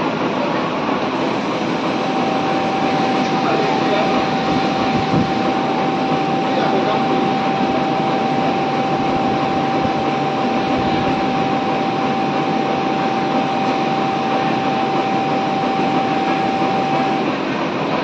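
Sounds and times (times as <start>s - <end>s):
steady whine: 0.0s - 18.0s.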